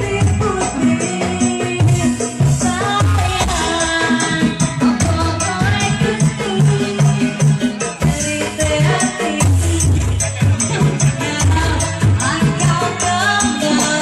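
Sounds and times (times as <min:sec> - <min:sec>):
music with steady beat: 0:00.0 - 0:14.0.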